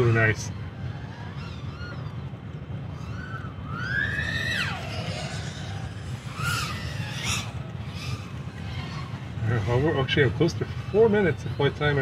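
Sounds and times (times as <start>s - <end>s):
drone motors whining: 0.0s - 12.0s
low rumble: 0.0s - 12.0s.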